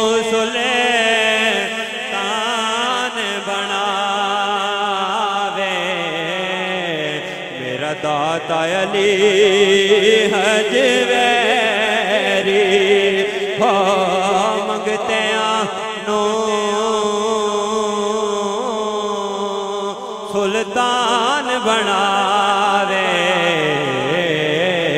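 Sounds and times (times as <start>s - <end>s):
man singing into a microphone: 0.0s - 24.9s.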